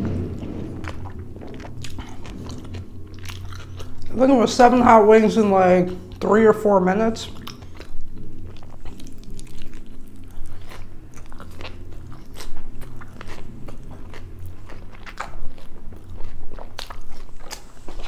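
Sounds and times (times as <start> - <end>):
person chewing food: 0.0 - 4.2, 7.2 - 18.0.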